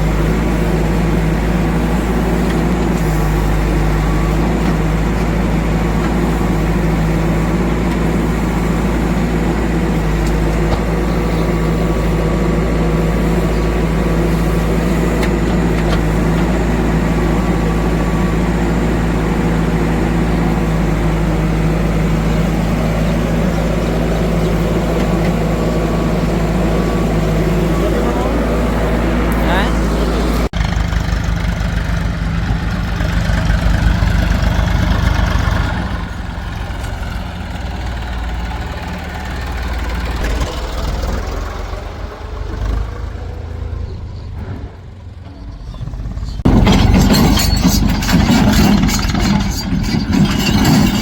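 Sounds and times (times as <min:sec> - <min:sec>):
diesel engine running steadily: 0:00.0 - 0:51.0.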